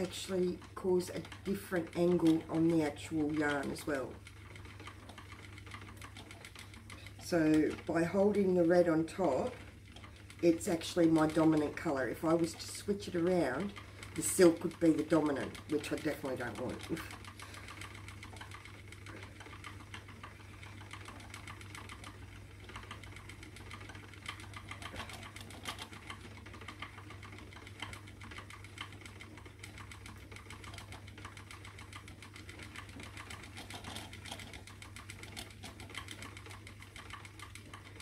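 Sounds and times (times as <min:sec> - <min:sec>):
spinning wheel clicking rattle: 0:00.0 - 0:38.0.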